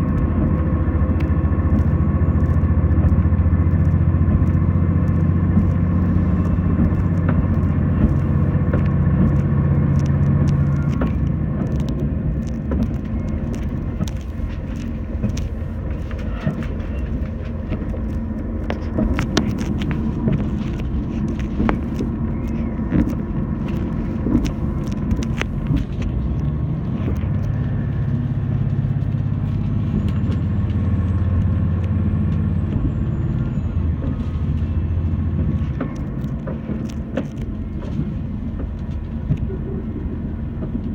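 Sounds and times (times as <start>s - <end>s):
low engine drone: 0.0s - 40.9s
wheel-on-rail clicks and knocks: 0.0s - 40.9s.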